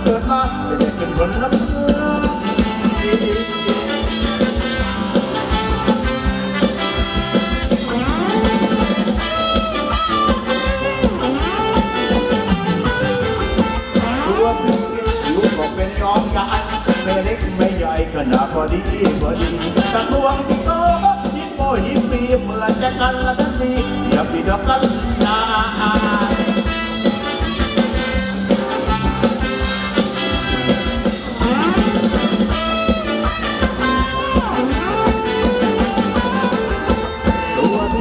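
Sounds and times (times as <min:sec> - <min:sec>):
brass melody: 0:00.0 - 0:21.4, 0:25.2 - 0:38.0
dance band playing: 0:00.0 - 0:38.0
fast drum beat: 0:00.0 - 0:38.0.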